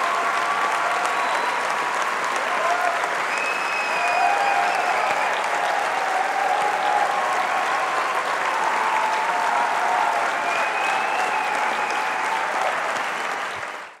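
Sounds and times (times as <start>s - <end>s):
faint cheers: 0.0s - 13.9s
audience applauding: 0.0s - 14.0s.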